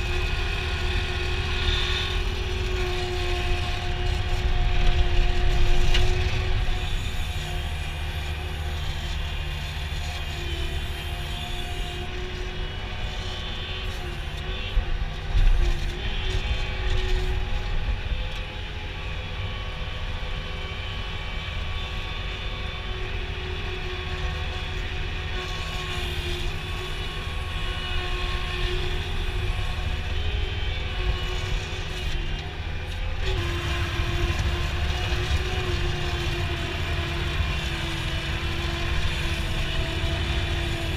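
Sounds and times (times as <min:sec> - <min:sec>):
vehicle engine hum: 0:00.0 - 0:40.9.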